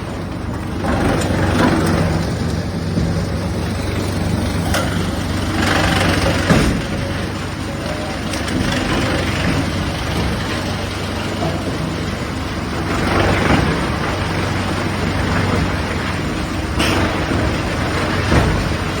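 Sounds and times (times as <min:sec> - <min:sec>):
wood chipper shredding wood: 0:00.0 - 0:19.0.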